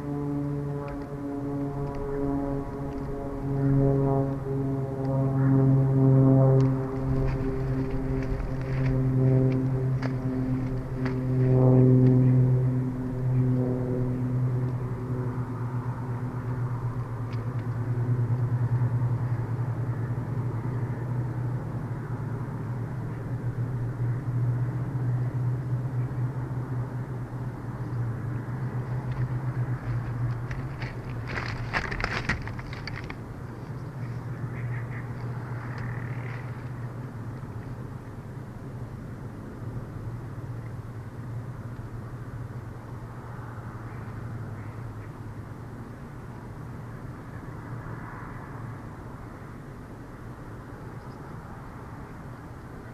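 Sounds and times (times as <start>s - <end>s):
distant motor drone: 0.0s - 52.9s
steady low hum: 0.0s - 52.9s.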